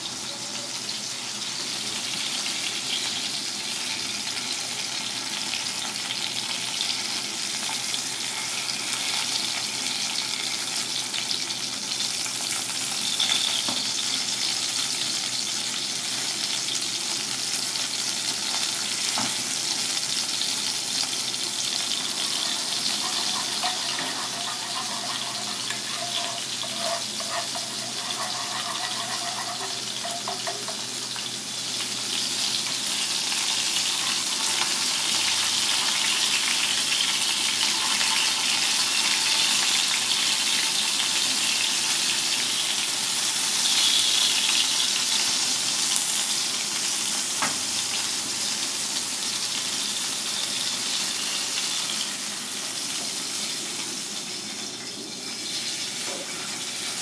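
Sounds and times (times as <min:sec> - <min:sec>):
hot oil sizzling and crackling: 0:00.0 - 0:57.0.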